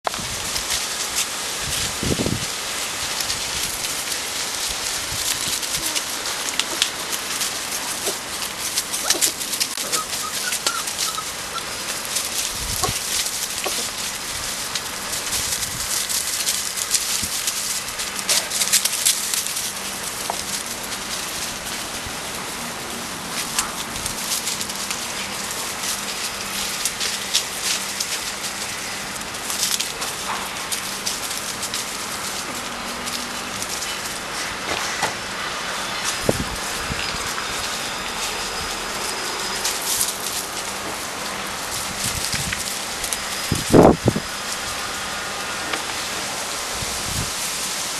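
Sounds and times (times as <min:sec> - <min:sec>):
dry leaves rustling and crackling: 0:00.0 - 0:47.9.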